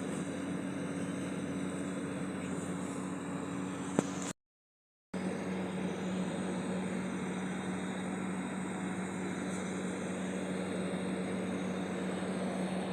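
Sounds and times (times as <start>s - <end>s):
constant low hum: 0.0s - 4.4s, 5.2s - 12.9s.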